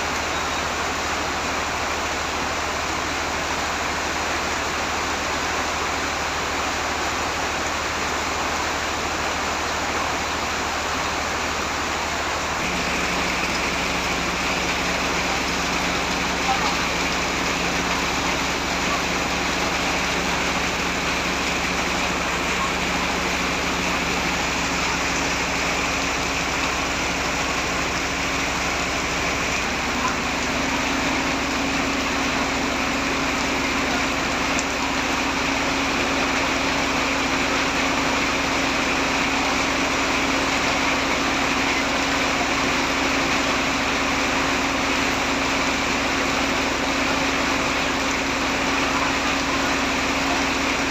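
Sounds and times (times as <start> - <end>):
engine hum: 0.0 - 50.9
heavy rain falling: 0.0 - 50.9.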